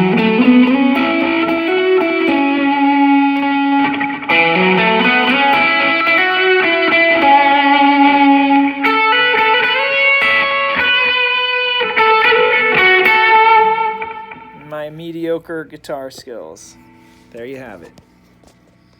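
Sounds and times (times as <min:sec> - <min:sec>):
electric guitar lead notes: 0:00.0 - 0:15.9.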